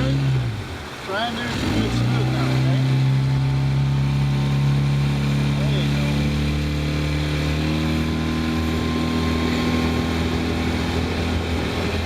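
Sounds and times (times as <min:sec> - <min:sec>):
outboard motor running: 0:00.0 - 0:12.0
water: 0:00.0 - 0:12.0
wind: 0:00.0 - 0:12.0.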